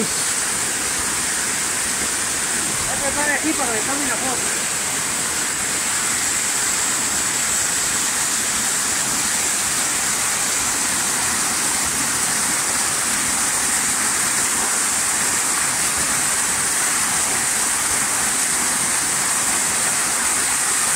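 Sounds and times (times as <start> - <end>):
waterfall splashing over rocks: 0.0 - 20.9.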